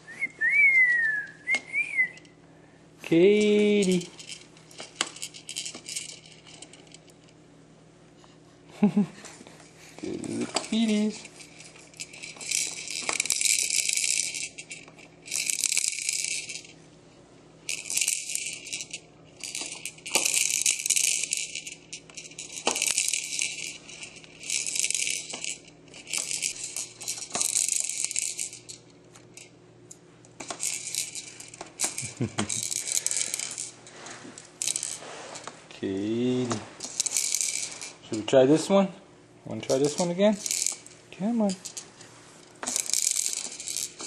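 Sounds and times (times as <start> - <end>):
toys rattling: 3.2 - 7.4, 9.6 - 16.8, 17.6 - 38.8, 39.5 - 44.0.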